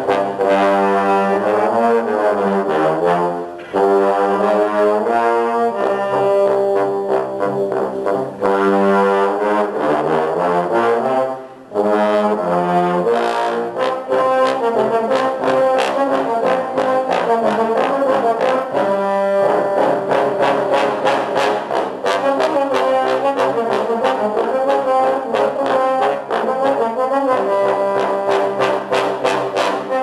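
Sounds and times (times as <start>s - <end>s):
trombone ensemble playing chords: 0.0s - 30.0s.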